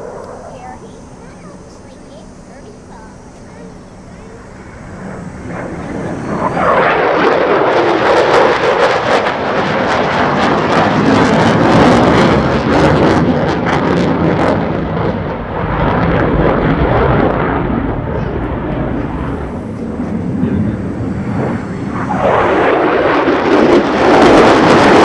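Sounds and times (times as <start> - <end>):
fighter jet passing: 0.0 - 25.0.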